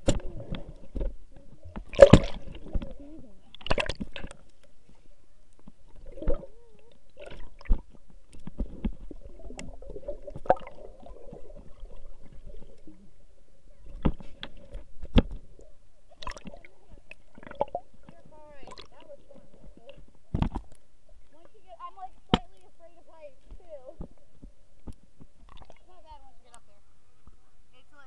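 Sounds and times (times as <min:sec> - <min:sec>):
muffled water sloshing and gurgling: 0:00.0 - 0:26.4
faint steady hum: 0:00.0 - 0:28.0.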